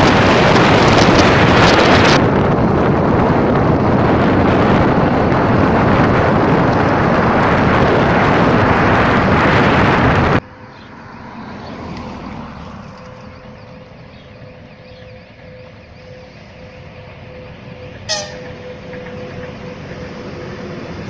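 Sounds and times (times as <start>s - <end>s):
wind roaring over microphone: 0.0s - 21.0s.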